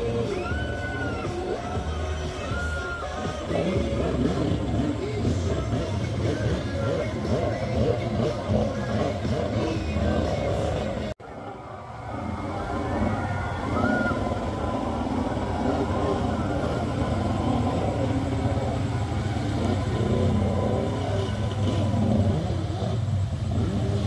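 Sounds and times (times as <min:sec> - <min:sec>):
jet ski engine revving: 0:00.0 - 0:11.2, 0:11.9 - 0:24.0.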